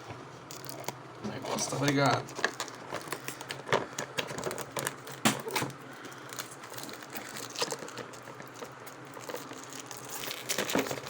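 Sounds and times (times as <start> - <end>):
packaging crinkling: 0.4 - 11.0.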